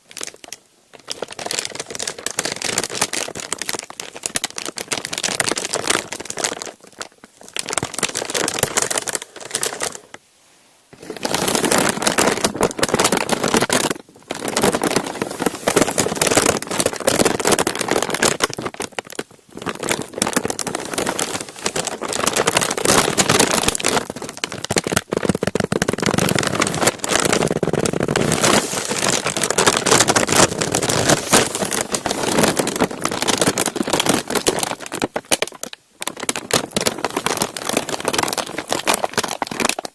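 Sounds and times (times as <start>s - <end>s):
thin sheet crinkling: 0.0s - 10.2s, 10.9s - 39.9s.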